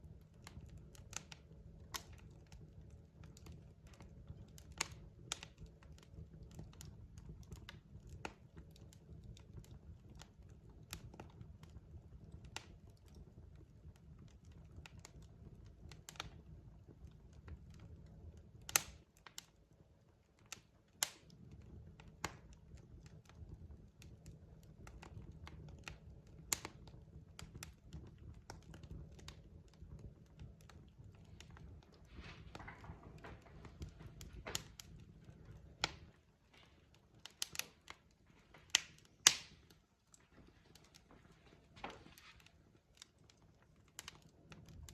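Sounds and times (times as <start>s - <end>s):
fireplace crackling and popping: 0.0s - 44.9s.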